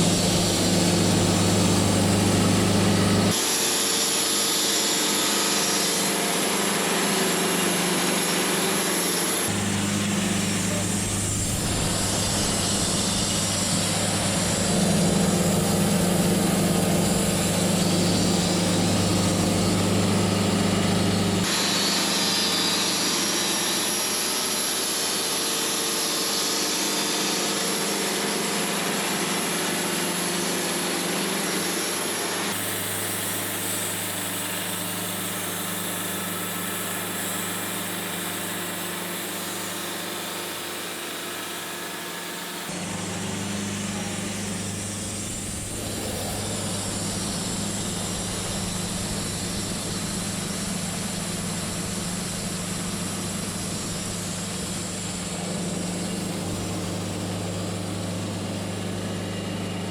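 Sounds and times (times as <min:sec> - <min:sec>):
sawmill engine and saw cutting: 0:00.0 - 0:59.9.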